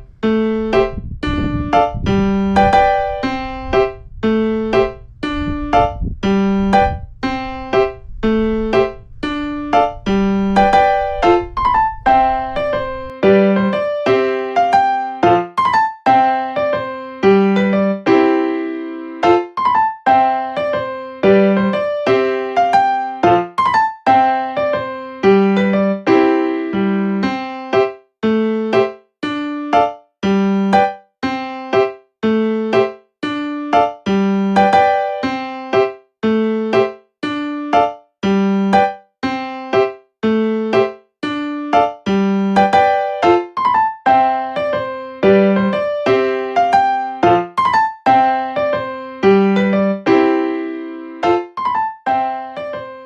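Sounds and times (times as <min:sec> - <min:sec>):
piano tune: 0:00.0 - 0:53.0.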